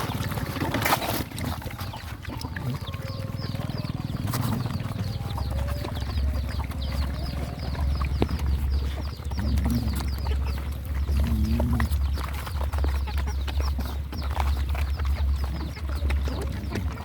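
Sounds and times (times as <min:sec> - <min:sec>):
dogs chewing and lapping: 0:00.0 - 0:17.0.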